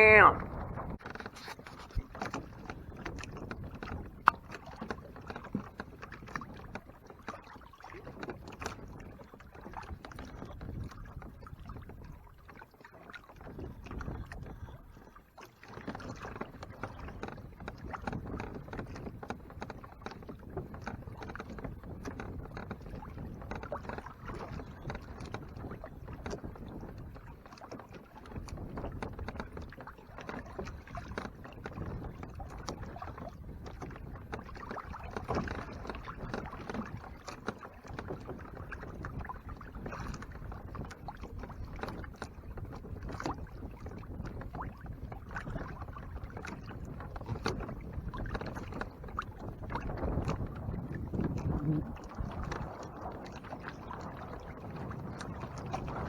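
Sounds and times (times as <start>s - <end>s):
water lapping against kayak hull: 0.0s - 56.0s.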